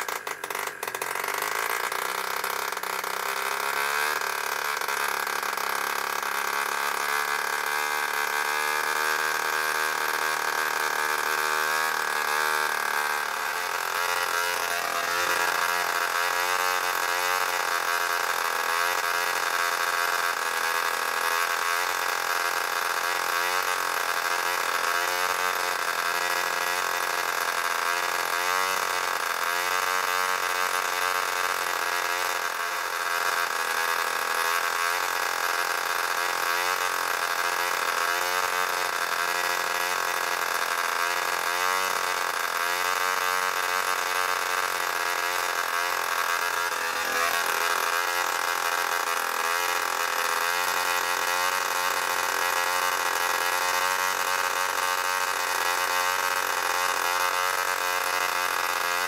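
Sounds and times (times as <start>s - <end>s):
model aircraft engine buzzing: 0.0s - 59.0s.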